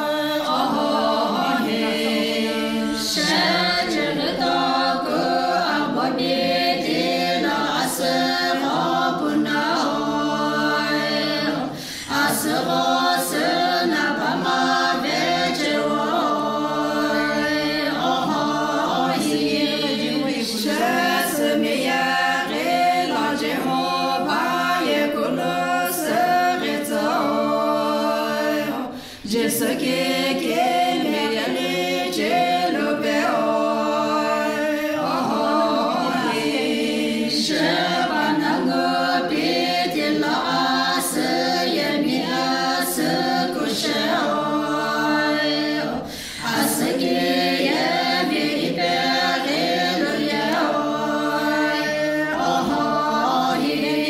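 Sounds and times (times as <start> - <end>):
women singing unaccompanied: 0.0 - 54.0.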